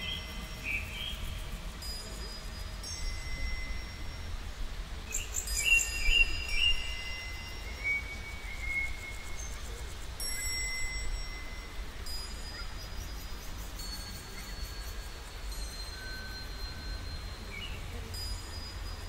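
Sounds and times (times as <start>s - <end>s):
chime tones ringing: 0.0s - 4.4s, 5.2s - 19.0s.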